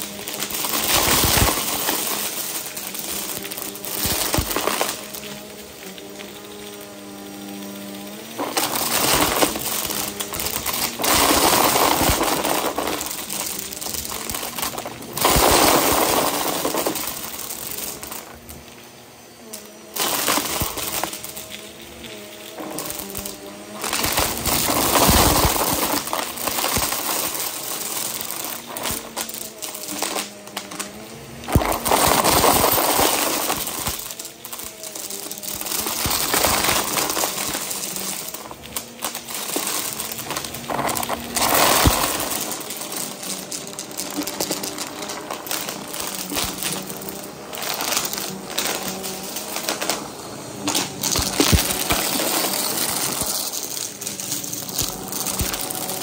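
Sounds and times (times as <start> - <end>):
debris rattling through vacuum nozzle: 0.0 - 56.0
vacuum cleaner motor hum: 0.0 - 56.0
vacuum suction rushes: 1.2 - 56.0.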